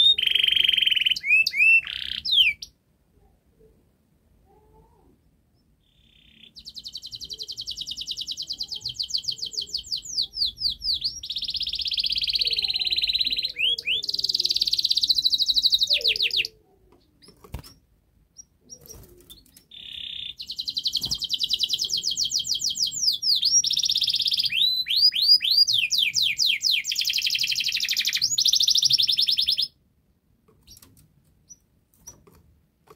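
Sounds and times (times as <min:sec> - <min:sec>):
canary singing trills: 0:00.0 - 0:02.8, 0:04.5 - 0:29.8, 0:30.6 - 0:32.3.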